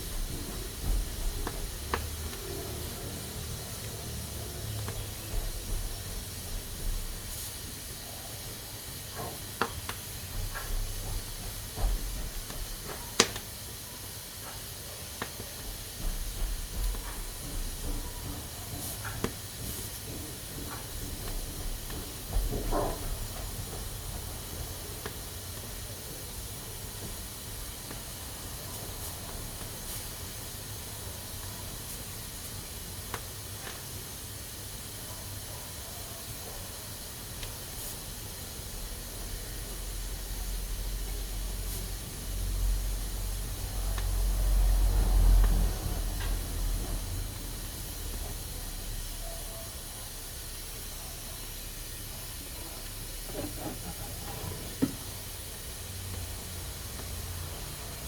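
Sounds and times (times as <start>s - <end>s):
pressure cooker hissing: 0.0s - 58.0s.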